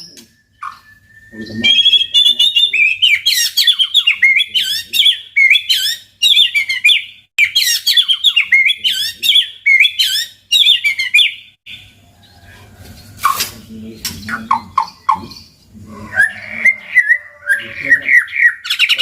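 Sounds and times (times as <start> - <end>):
songbird chirps and whistles: 0.0 - 13.4, 14.0 - 19.0.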